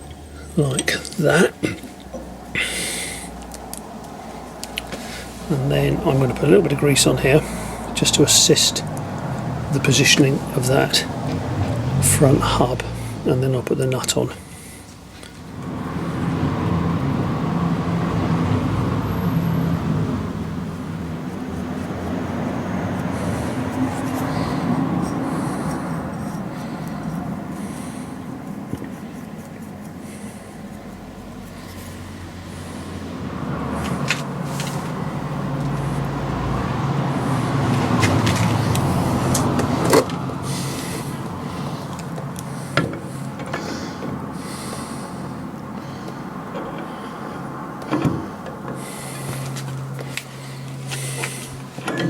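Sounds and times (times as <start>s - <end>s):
low mechanical drone: 0.0s - 52.0s
vehicle engine passing: 0.0s - 52.0s.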